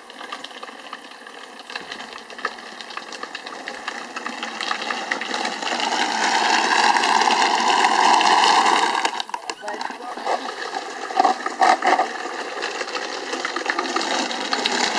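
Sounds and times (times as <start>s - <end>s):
plastic toy wheels rattling on asphalt: 0.0s - 14.9s.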